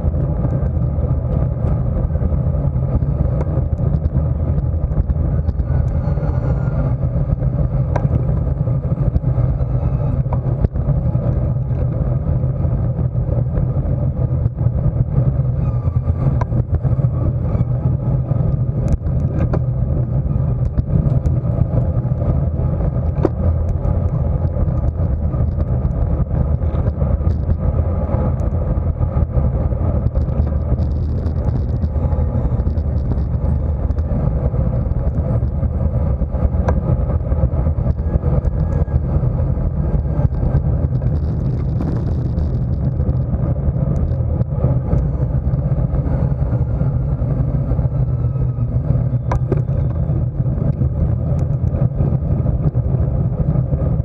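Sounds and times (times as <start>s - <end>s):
tyre and road noise: 0.0s - 54.0s
wind rush over microphone: 0.0s - 54.0s.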